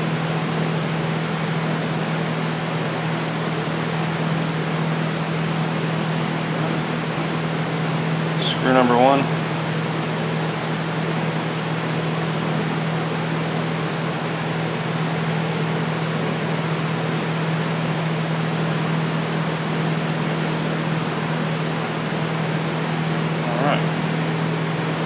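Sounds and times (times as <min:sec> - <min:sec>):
fan whirring: 0:00.0 - 0:25.0.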